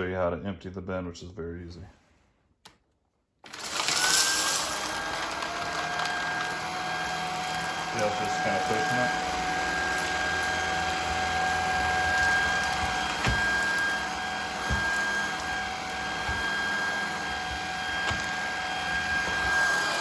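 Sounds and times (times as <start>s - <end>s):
stick vacuum whining: 3.4s - 20.0s.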